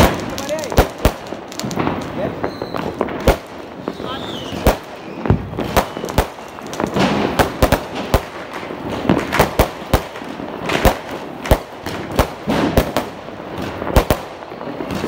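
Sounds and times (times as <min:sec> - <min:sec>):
noisy firework hiss: 0:00.0 - 0:13.0
fireworks sharp bangs: 0:00.0 - 0:15.0.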